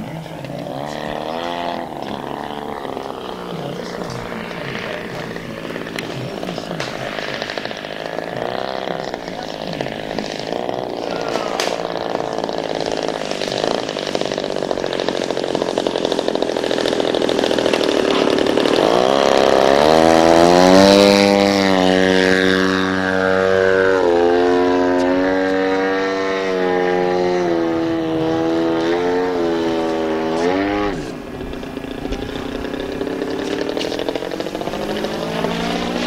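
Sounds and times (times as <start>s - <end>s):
model plane engine revving: 0.0s - 36.0s.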